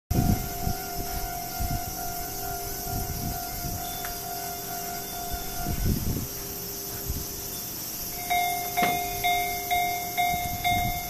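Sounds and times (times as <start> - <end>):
level crossing warning bell: 0.1 - 11.0
low rumbles: 0.1 - 11.0.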